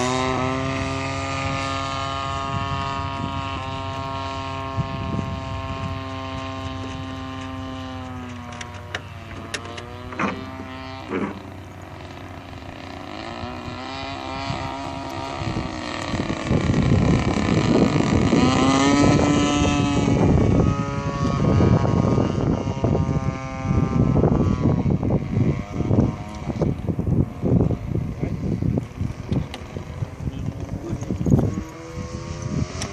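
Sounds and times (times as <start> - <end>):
model plane engine and propeller: 0.0 - 32.9.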